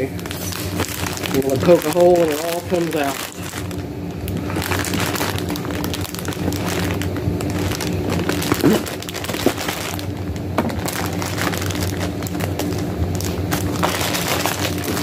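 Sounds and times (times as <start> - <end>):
plastic bag crinkling and tearing: 0.0 - 15.0.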